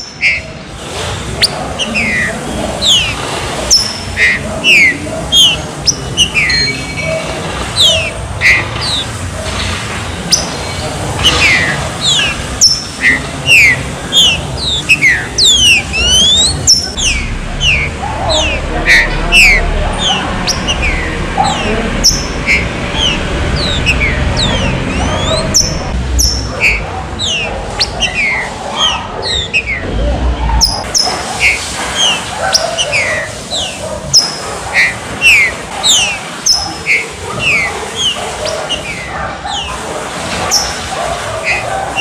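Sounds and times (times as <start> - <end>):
birds singing whistled notes: 0.0 - 0.7, 1.3 - 39.8, 40.4 - 42.0.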